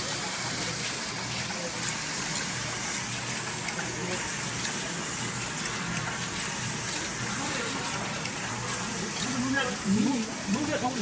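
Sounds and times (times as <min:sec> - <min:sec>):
factory machinery running: 0:00.0 - 0:11.0.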